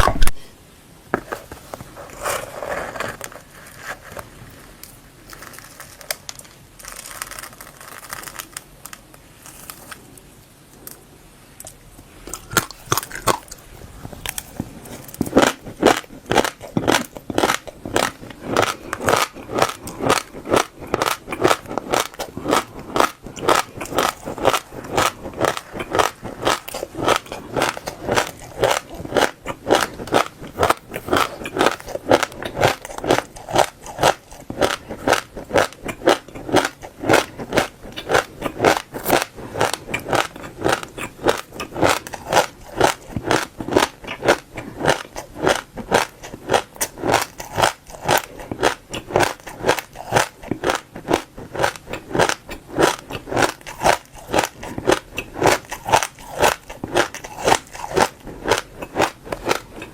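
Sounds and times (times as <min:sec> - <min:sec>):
chewing crunchy seeds: 0:11.6 - 0:59.9.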